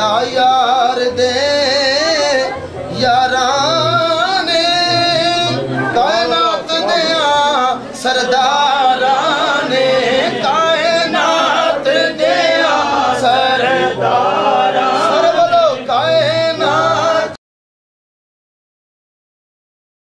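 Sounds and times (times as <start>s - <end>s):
man singing a chant: 0.0s - 17.4s.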